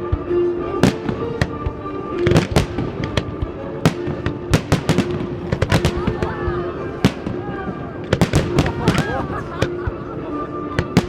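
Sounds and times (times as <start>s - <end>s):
fireworks bangs and cracks: 0.2s - 9.7s.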